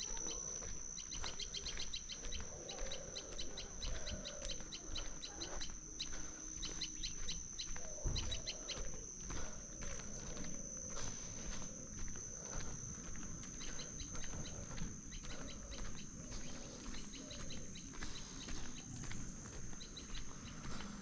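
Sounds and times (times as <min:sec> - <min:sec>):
high-pitched insect drone: 0:00.0 - 0:21.0
small birds chirping: 0:00.0 - 0:21.0.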